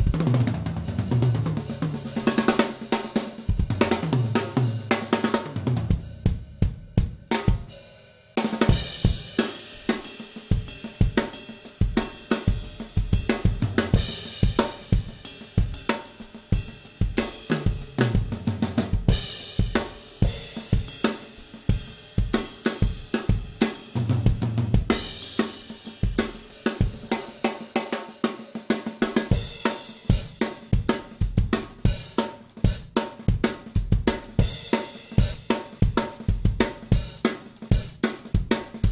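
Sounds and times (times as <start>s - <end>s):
drum kit playing a groove: 0.0s - 7.8s, 8.4s - 38.9s.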